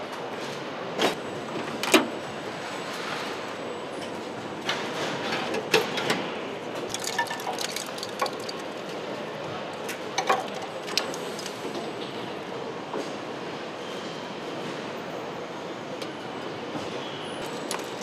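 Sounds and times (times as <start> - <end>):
assembly hall background noise: 0.0 - 18.0.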